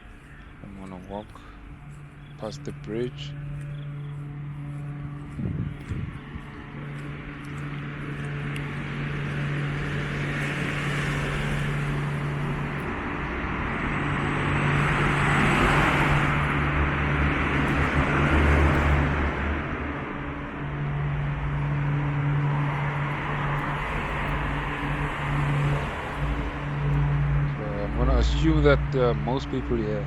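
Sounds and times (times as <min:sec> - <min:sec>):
cars passing: 0:00.0 - 0:30.0
low rumble: 0:00.0 - 0:30.0
steady low hum: 0:00.0 - 0:30.0.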